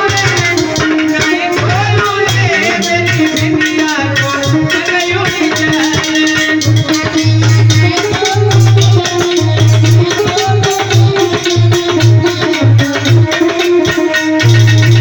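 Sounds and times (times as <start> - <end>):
devotional song melody: 0.0 - 14.2
rhythmic percussion: 0.0 - 15.0.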